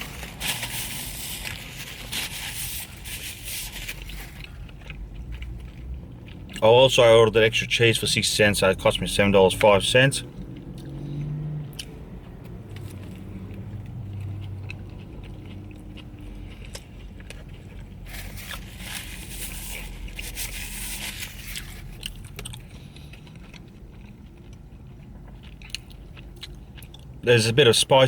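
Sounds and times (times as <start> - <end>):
person chewing crunchy food: 0.0 - 27.6.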